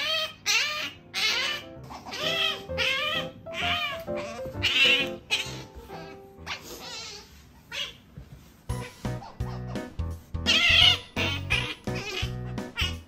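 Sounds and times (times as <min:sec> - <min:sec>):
otter squeaking calls: 0:00.0 - 0:08.0, 0:08.7 - 0:13.0.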